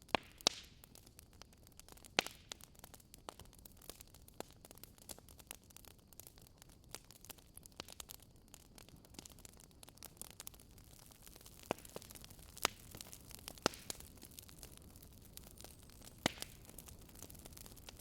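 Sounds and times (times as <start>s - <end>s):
loud fire pops: 0.0s - 18.0s
wood fire crackling: 0.0s - 18.0s.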